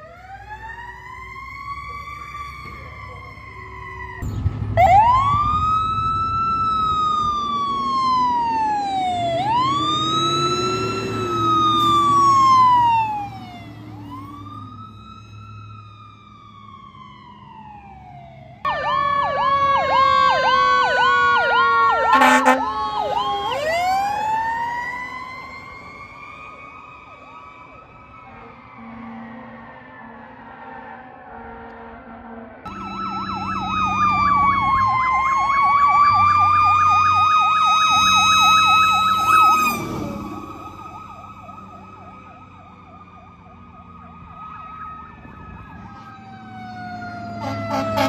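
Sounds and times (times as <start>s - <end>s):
fast yelp siren: 0.0s - 31.2s, 32.7s - 48.0s
ambulance siren wailing: 0.0s - 48.0s.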